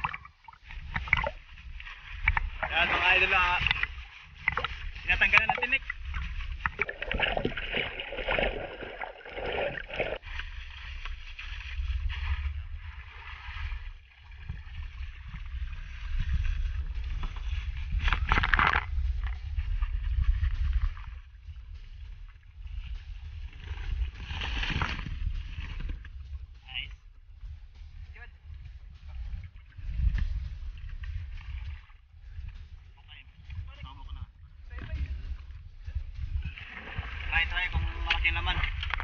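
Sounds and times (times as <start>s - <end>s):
steady low rumble: 0.0s - 39.0s
water lapping around boat: 0.0s - 39.0s.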